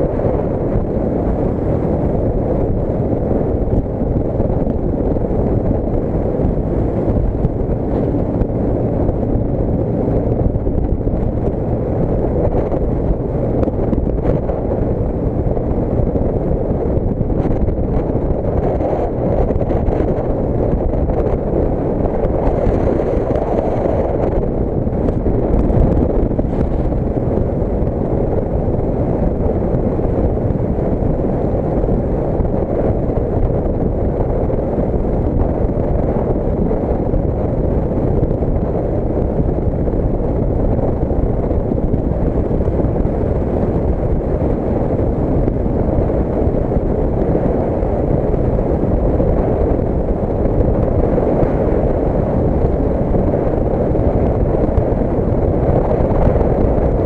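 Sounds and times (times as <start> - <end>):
scooter engine and road noise: 0.0 - 57.0
wind buffeting microphone: 0.0 - 57.0.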